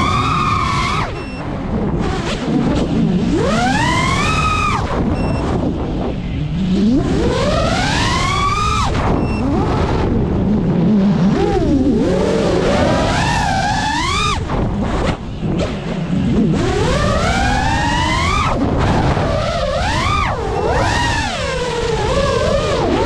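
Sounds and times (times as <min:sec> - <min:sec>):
quadcopter motors whining: 0:00.0 - 0:05.8, 0:06.4 - 0:23.0.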